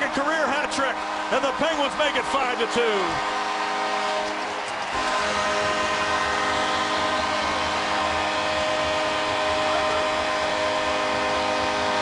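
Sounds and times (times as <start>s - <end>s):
crowd cheering: 0.0s - 12.0s.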